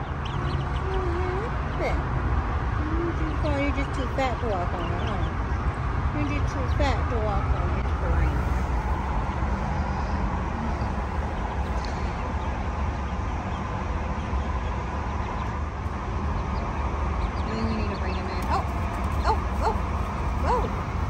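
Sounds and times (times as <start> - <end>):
chickens calling: 0.0 - 2.0, 2.7 - 21.0
low rumbling background noise: 0.0 - 21.0.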